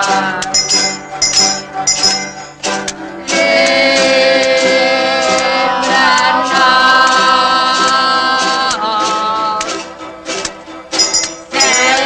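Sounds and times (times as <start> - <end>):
music with singing: 0.0 - 12.0.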